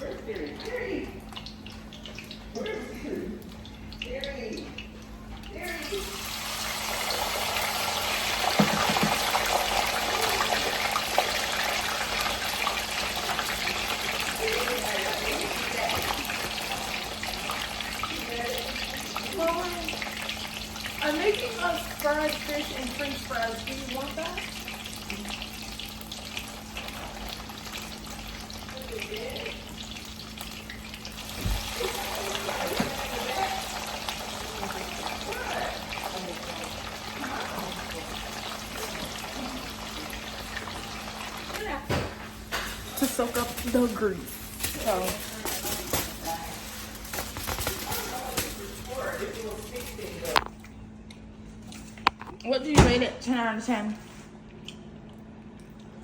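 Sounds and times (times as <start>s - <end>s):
fish frying in hot oil: 0.0s - 50.4s.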